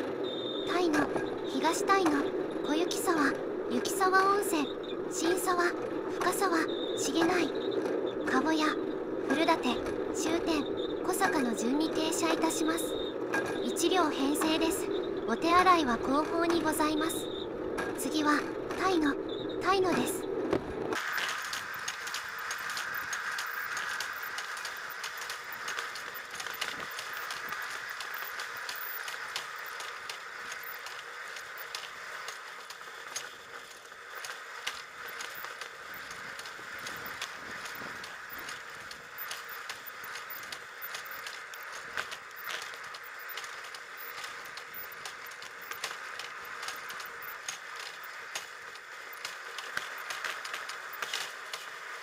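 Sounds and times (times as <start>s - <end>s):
trolley wheels running on rails: 0.0s - 52.0s.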